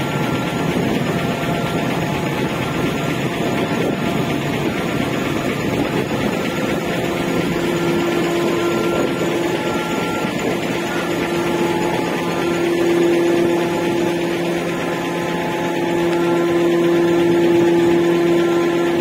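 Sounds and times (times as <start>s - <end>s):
ship engines and machinery droning: 0.0s - 19.0s
steady hum: 0.0s - 19.0s.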